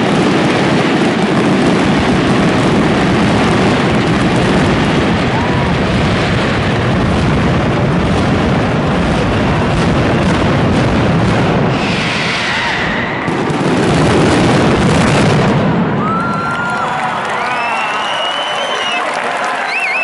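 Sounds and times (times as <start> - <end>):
firecrackers booming and cracking: 0.0 - 20.0.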